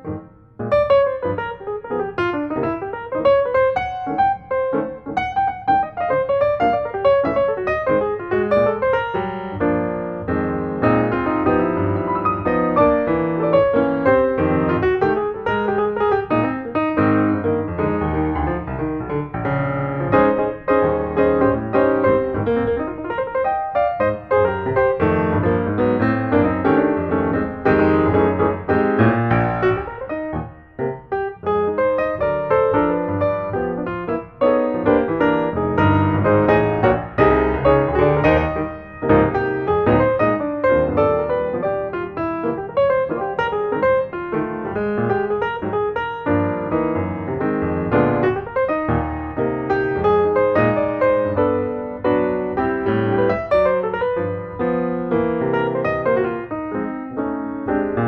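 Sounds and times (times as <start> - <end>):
lively piano music: 0.0 - 58.0.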